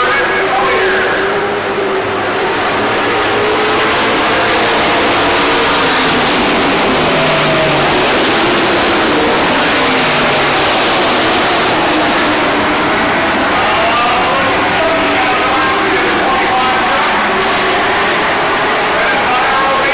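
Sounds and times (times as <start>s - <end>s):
race truck engines: 0.0s - 19.9s.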